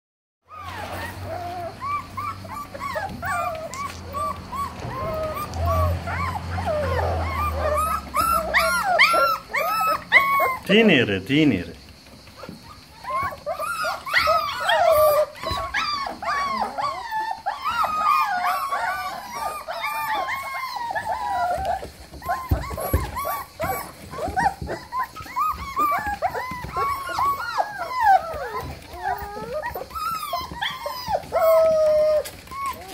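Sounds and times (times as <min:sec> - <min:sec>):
puppies whining and yelping: 0:00.5 - 0:10.8, 0:11.8 - 0:32.9.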